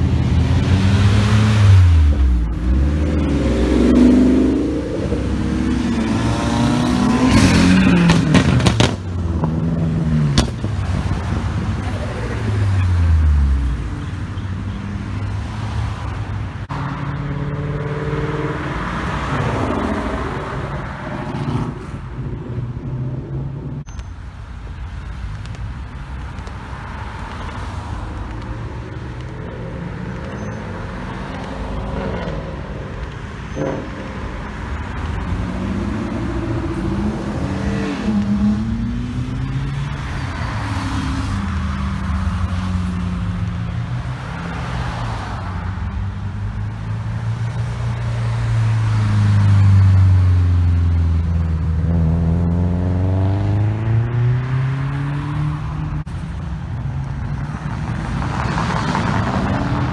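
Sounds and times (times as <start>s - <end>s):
cars accelerating past: 0.0s - 23.9s, 26.7s - 59.9s
traffic noise: 0.0s - 59.9s.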